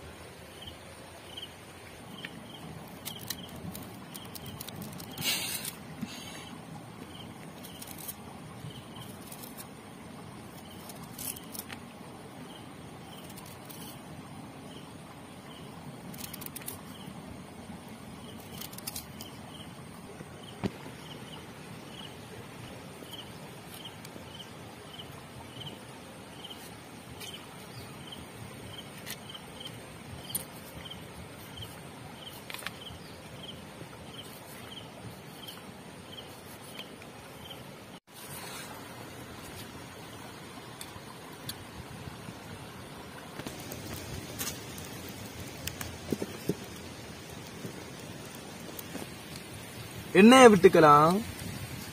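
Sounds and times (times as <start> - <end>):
outdoor background noise: 0.0 - 51.9.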